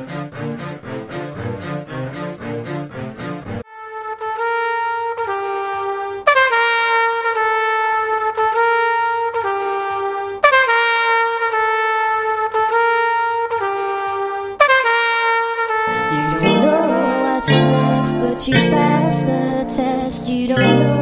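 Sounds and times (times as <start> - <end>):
trumpet-like melody: 3.5 - 21.0.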